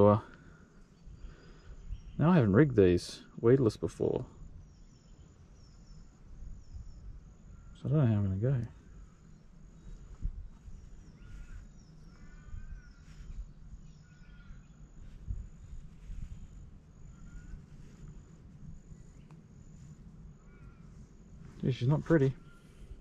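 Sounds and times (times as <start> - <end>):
high insect trill: 0.0 - 23.0
bird chirps: 0.7 - 2.6, 4.0 - 23.0.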